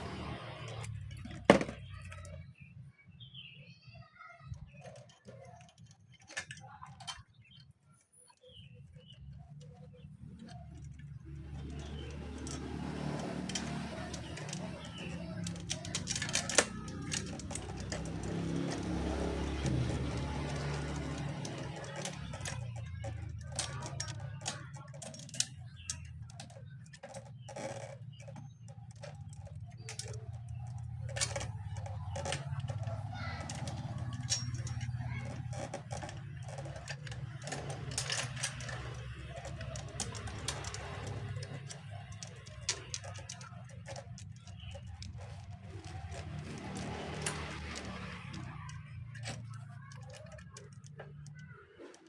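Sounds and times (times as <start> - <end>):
metal tools clinking: 0.0 - 2.6, 4.5 - 52.0.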